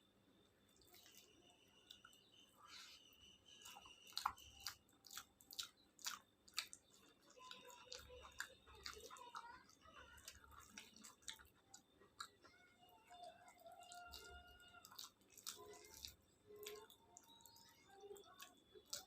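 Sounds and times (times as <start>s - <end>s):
chewing with wet mouth clicks: 0.7s - 2.3s, 3.5s - 19.0s.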